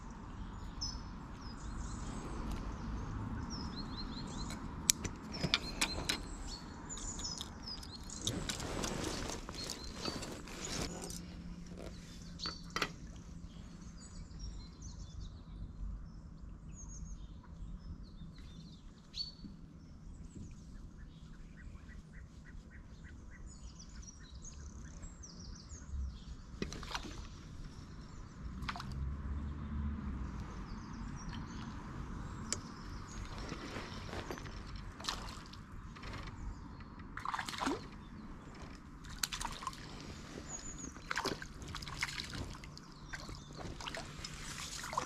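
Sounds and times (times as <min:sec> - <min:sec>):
low outdoor rumble: 0:00.0 - 0:18.9, 0:24.4 - 0:45.0
small birds chirping: 0:00.0 - 0:29.6, 0:30.2 - 0:45.0.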